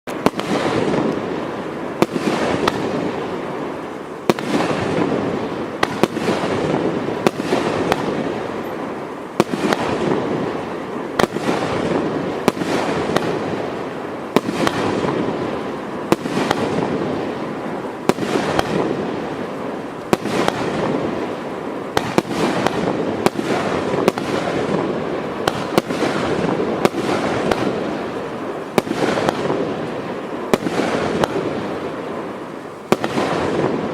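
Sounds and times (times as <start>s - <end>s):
dense crackling hiss: 0.1s - 33.9s
firework cracks: 0.1s - 33.9s.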